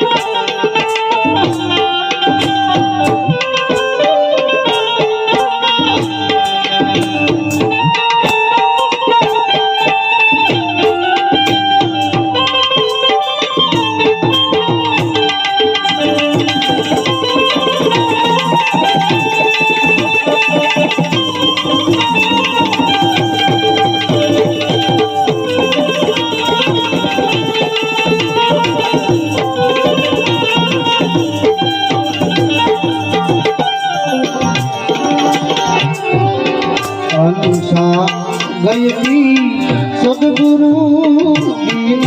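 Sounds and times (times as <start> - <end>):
sustained melodic line: 0.0 - 41.0
tabla playing steady rhythm: 0.0 - 42.0.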